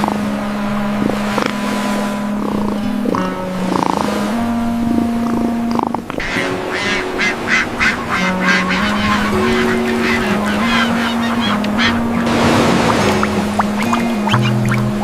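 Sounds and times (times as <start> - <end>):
ducks quacking: 0.0 - 15.0
soft background music: 0.0 - 15.0.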